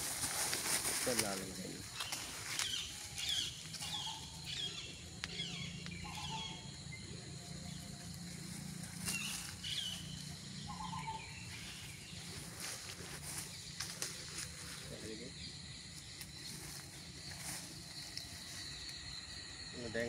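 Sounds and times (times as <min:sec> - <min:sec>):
birds chirping: 0:00.0 - 0:20.0
insect drone: 0:00.0 - 0:20.0
steady low hum: 0:00.0 - 0:20.0.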